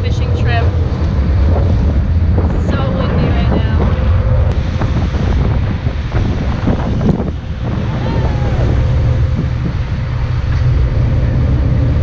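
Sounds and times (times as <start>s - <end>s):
boat engines rumbling: 0.0s - 12.0s
wind buffeting microphone: 0.0s - 12.0s.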